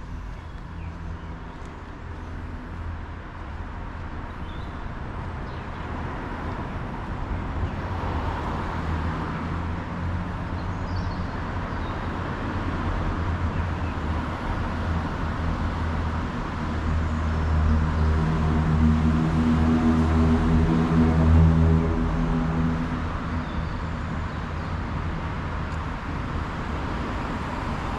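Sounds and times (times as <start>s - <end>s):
road traffic passing: 0.0s - 27.9s.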